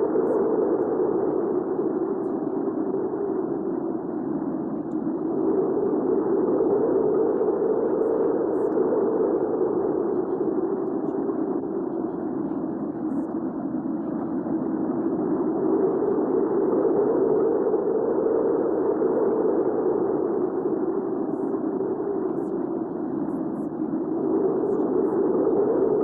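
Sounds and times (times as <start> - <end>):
muffled rush of strong wind: 0.0 - 26.0.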